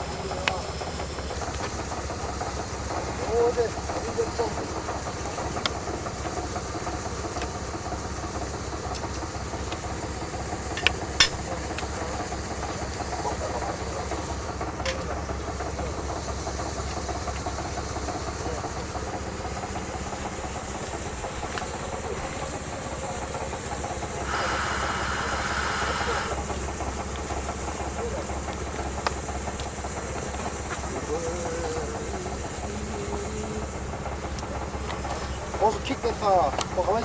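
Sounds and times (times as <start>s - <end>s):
loud hiss: 0.0s - 37.0s
machine engine droning: 0.0s - 37.0s.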